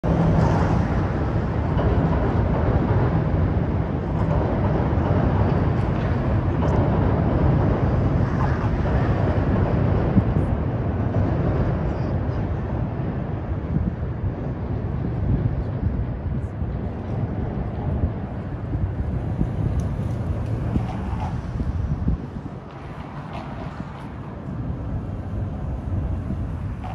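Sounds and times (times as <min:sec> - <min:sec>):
city traffic rumble: 0:00.0 - 0:26.9.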